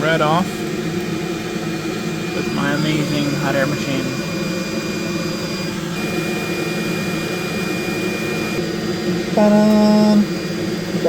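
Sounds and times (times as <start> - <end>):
hot air blowing: 0.0 - 11.0
thin high whine: 0.0 - 11.0.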